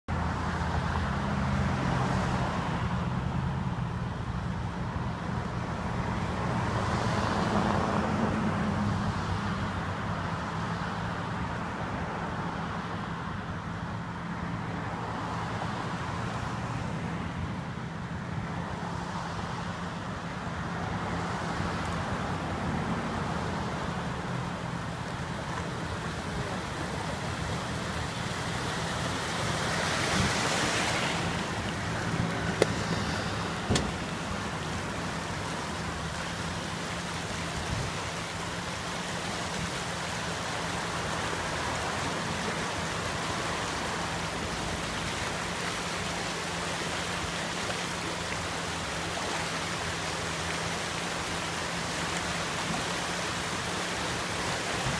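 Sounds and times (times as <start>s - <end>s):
cars passing: 0.1s - 54.9s
floodwater rushing down channel: 0.1s - 54.9s.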